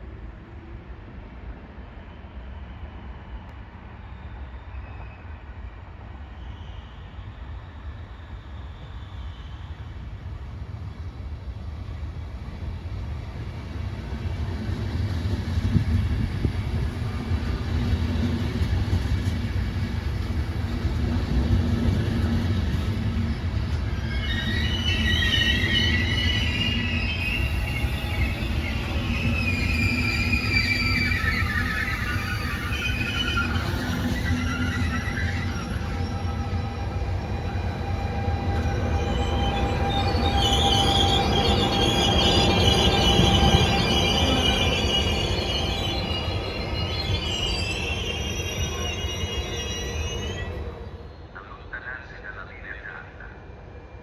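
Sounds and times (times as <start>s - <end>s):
train wheels squealing: 1.8s - 11.1s, 11.8s - 52.1s
train rumbling: 7.1s - 54.0s.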